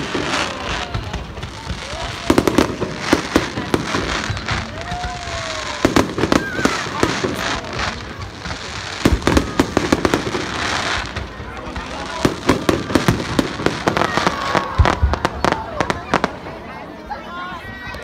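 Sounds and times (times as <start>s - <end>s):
fireworks bangs: 0.0s - 17.0s
steady fireworks crackle: 0.0s - 18.0s.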